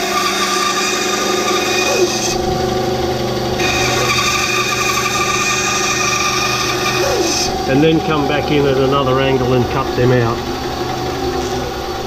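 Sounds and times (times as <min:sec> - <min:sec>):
bandsaw cutting wood: 0:00.0 - 0:12.0.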